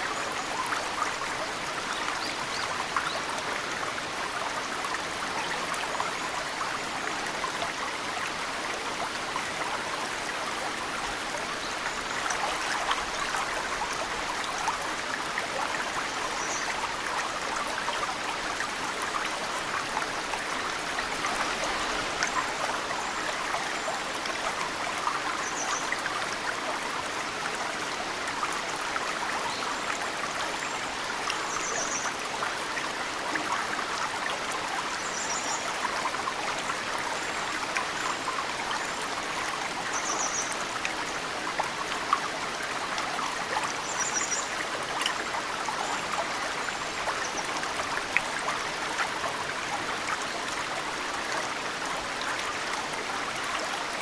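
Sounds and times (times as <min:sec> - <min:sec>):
mountain stream running: 0:00.0 - 0:54.0.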